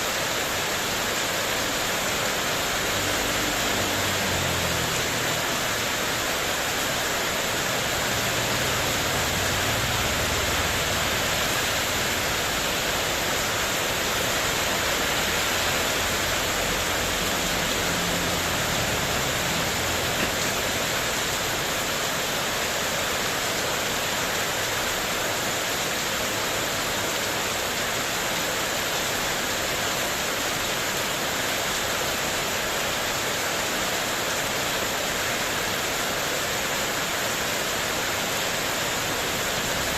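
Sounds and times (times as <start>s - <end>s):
heavy rain on metal roof: 0.0s - 39.9s.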